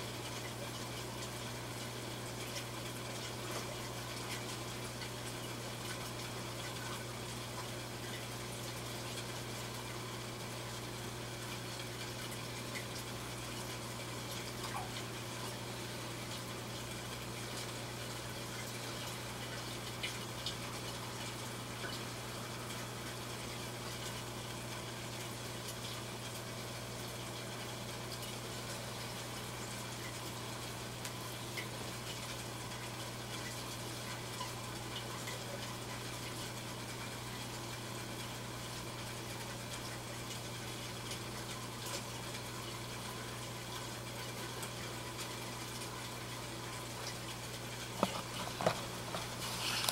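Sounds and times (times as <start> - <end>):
water washing in aquarium filter: 0.0 - 49.9.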